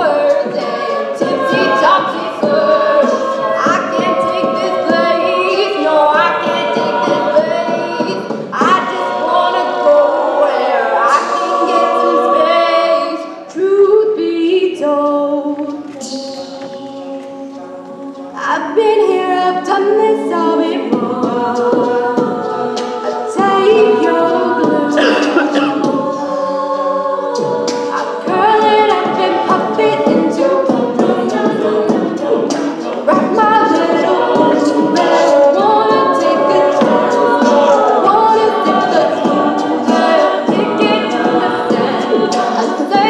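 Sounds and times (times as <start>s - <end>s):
a cappella group singing: 0.0s - 43.0s.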